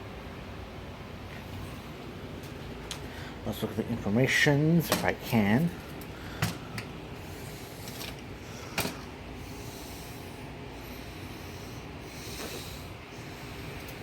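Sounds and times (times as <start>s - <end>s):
steady low background noise: 0.0s - 14.0s.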